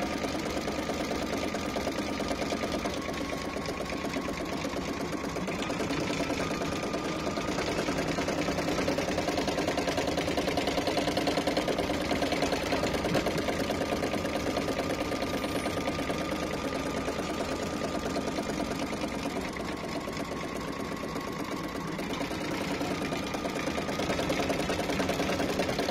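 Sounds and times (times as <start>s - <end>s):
embroidery machine stitching: 0.0s - 25.9s.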